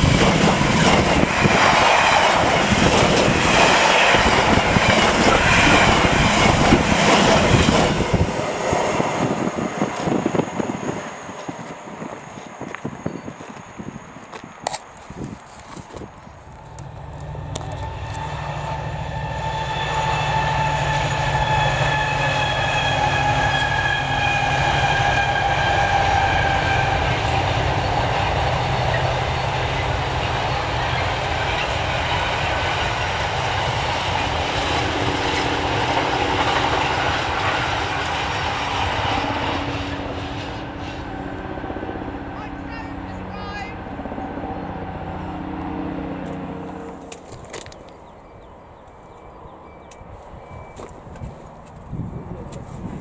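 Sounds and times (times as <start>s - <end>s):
diesel locomotive engine drone: 0.0s - 53.0s
high engine whine: 0.0s - 53.0s.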